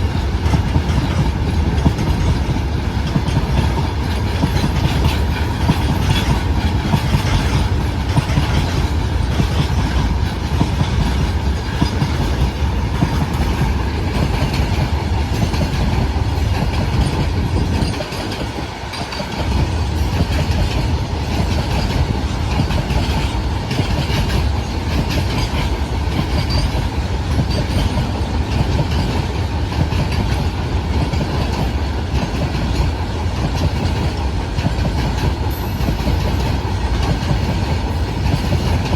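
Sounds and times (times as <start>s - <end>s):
train wheels rumbling and clacking: 0.0s - 38.9s.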